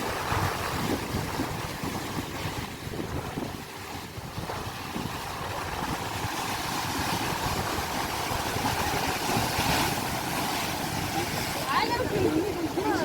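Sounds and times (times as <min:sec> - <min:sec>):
sea waves washing in: 0:00.0 - 0:13.0
wind rumbling on microphone: 0:00.0 - 0:13.0.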